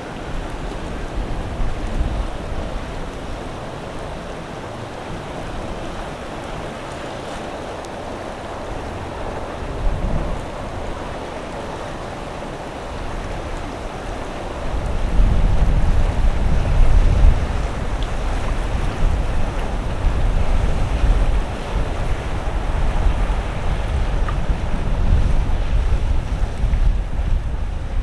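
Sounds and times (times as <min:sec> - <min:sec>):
waves washing: 0:00.0 - 0:28.0
wind: 0:00.0 - 0:28.0.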